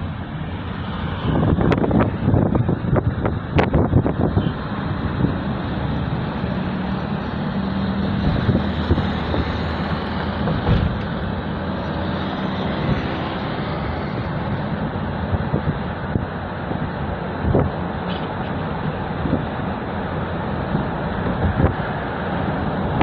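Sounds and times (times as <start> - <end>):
car engine hum: 0.0 - 23.0.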